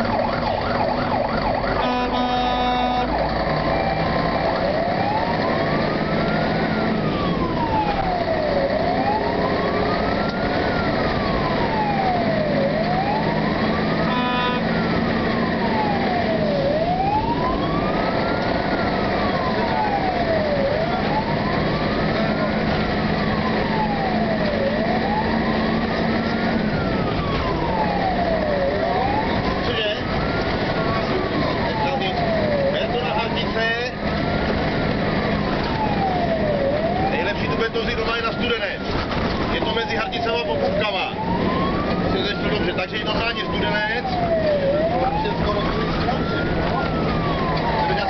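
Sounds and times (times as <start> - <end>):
fire engine siren wailing: 0.0 - 48.0
truck engine hum: 0.0 - 48.0.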